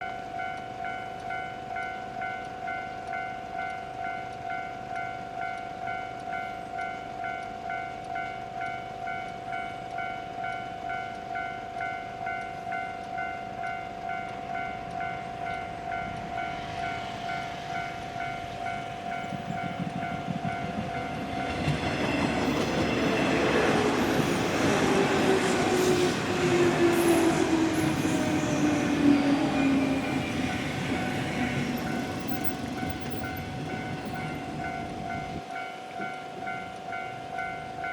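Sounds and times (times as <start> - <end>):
electric train passing: 0.0 - 37.9
level crossing warning bell: 0.0 - 37.9.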